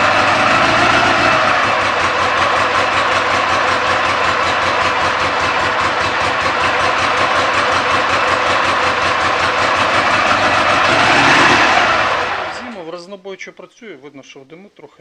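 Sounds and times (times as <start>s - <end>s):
motorcycle engine idling unevenly: 0.0s - 12.8s.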